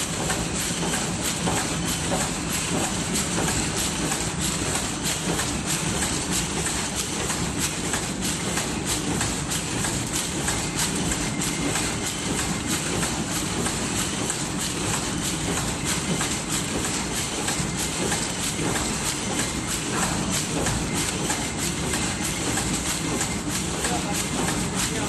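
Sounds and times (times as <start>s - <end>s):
machine clattering with rapid clicks: 0.0s - 25.0s.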